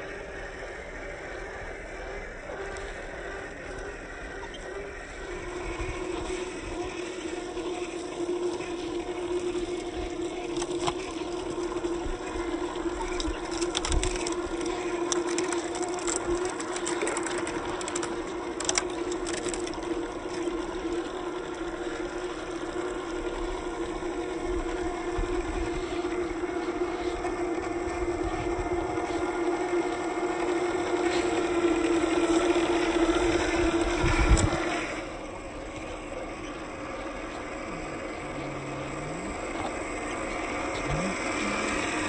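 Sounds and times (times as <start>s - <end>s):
toy car electric motor whine: 0.0s - 42.0s.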